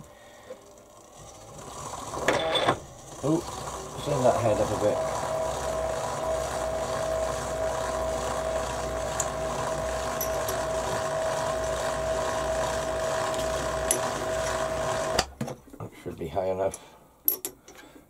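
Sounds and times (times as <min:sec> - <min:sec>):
motor whining over low hum: 0:00.3 - 0:15.3.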